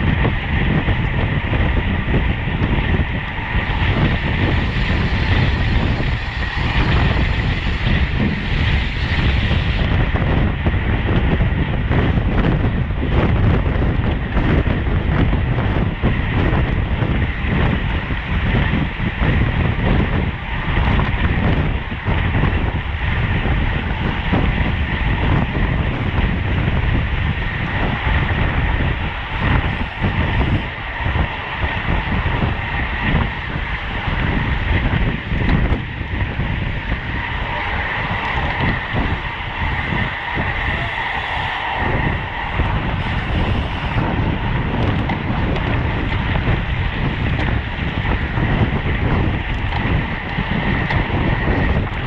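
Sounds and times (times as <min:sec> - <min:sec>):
high steady whine: 0:00.0 - 0:52.0
road and drivetrain noise: 0:00.0 - 0:52.0
wind buffeting microphone: 0:00.0 - 0:52.0.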